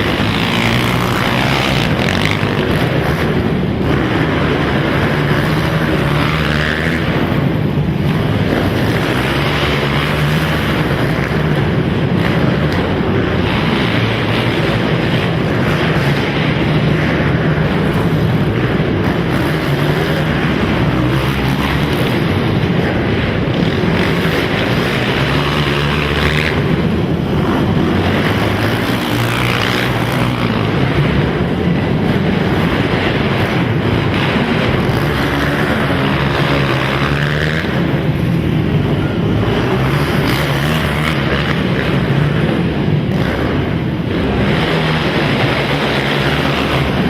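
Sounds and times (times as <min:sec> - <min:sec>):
quad bike engines revving: 0:00.0 - 0:47.0.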